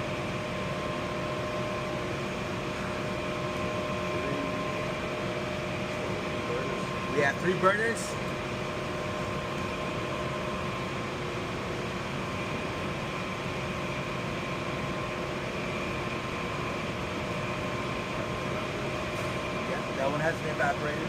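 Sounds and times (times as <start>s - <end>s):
furnace burners and fan rushing: 0.0s - 21.0s.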